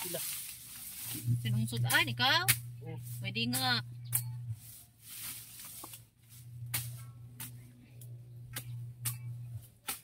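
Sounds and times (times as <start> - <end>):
blade chopping through grass: 0.0 - 7.7, 8.5 - 10.0
steady low hum: 0.0 - 10.0.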